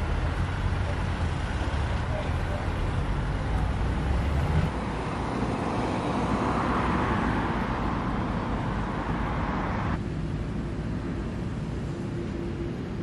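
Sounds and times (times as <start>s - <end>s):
traffic engine rumble: 0.0s - 13.0s
vehicle passing with tyre noise: 0.0s - 13.0s.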